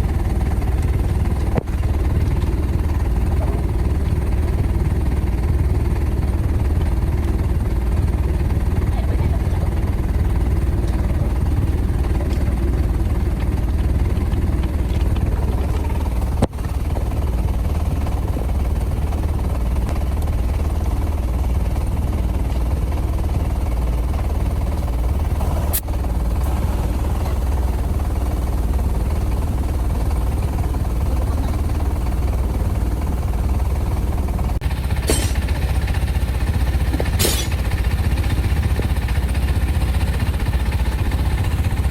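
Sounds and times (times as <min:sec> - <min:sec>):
machinery rumbling: 0:00.0 - 0:41.9.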